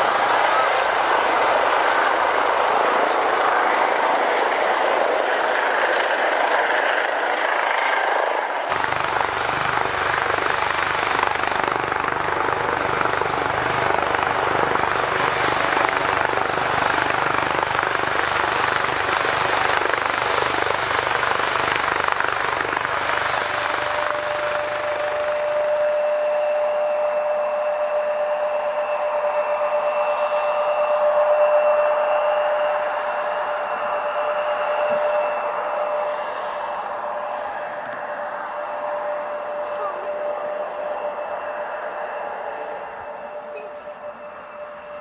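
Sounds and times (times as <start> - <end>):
aircraft engine noise: 0.0 - 45.0.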